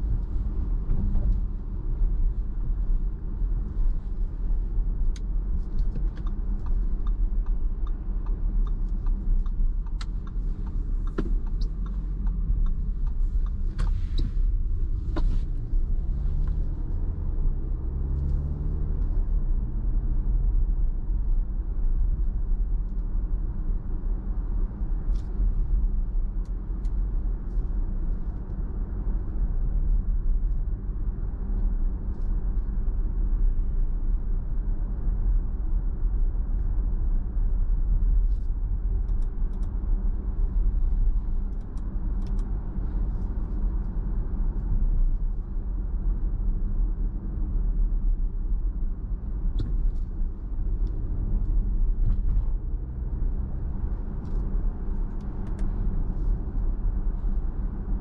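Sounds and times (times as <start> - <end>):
car engine hum: 0.0 - 58.0.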